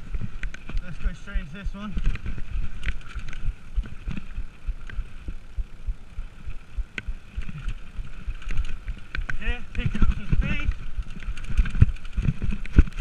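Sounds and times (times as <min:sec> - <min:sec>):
bike thudding and rattling on trail: 0:00.0 - 0:13.0.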